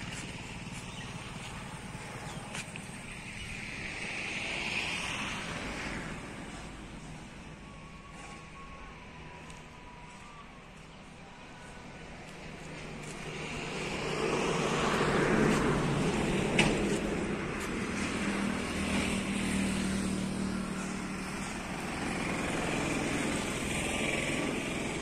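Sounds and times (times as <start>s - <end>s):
traffic engine hum and road noise: 0.0s - 25.0s.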